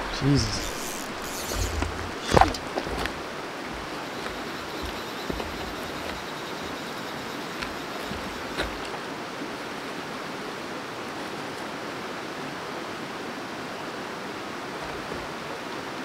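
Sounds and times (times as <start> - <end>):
river water rushing over stones: 0.0 - 16.0.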